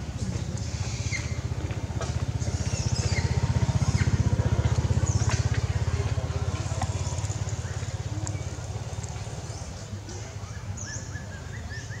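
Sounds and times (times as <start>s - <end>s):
small engine idling: 0.2s - 9.9s.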